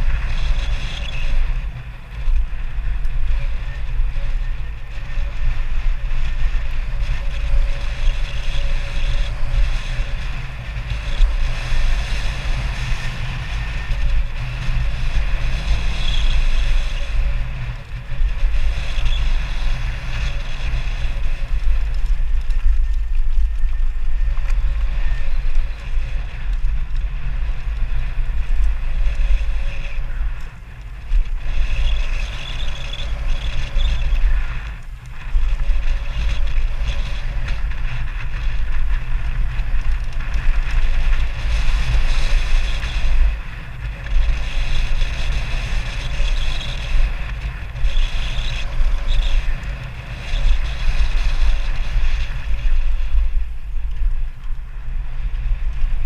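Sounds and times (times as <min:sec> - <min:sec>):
bike tyre and drivetrain noise: 0:00.0 - 0:56.0
wind rumble on microphone: 0:00.0 - 0:56.0.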